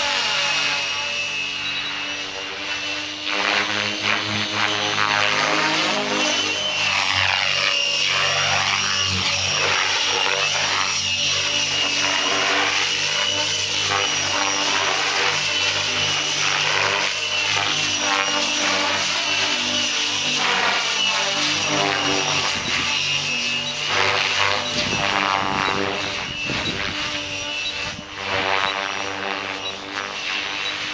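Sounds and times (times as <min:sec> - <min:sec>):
helicopter rotor blades swooshing: 0:00.0 - 0:30.9
motor and gear whine: 0:00.0 - 0:30.9.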